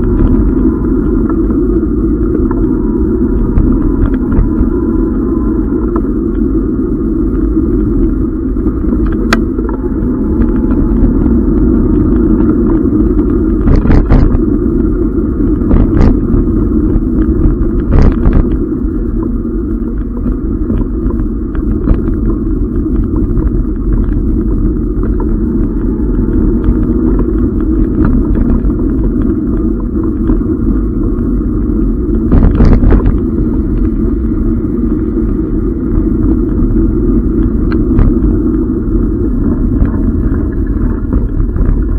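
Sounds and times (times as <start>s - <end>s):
muffled bike riding rumble: 0.0s - 41.9s.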